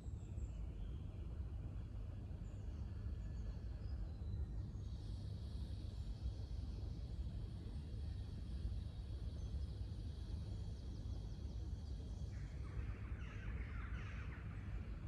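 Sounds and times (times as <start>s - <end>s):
low outdoor rumble: 0.3s - 15.0s.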